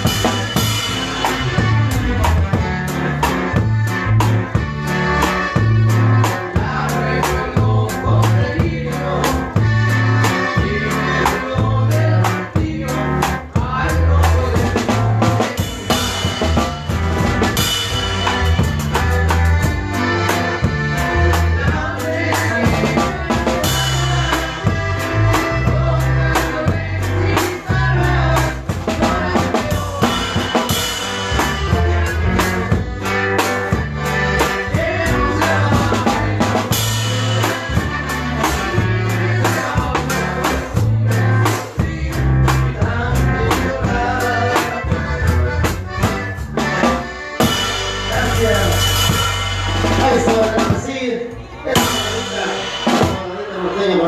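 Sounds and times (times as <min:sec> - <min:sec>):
stepping bass line: 0:00.0 - 0:51.1
drum kit with bass and snare: 0:00.0 - 0:53.8
band playing: 0:00.0 - 0:54.0.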